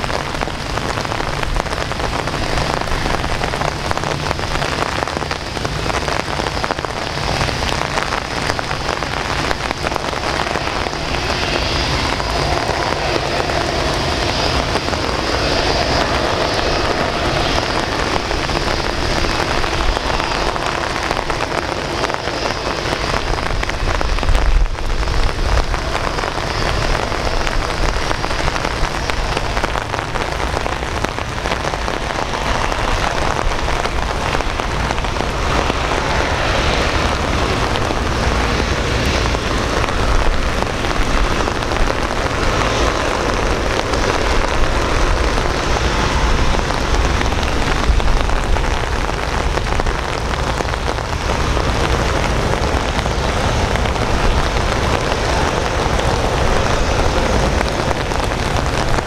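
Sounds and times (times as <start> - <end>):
faint high whine of jet engines: 0.0 - 59.0
steady rain hiss: 0.0 - 59.0.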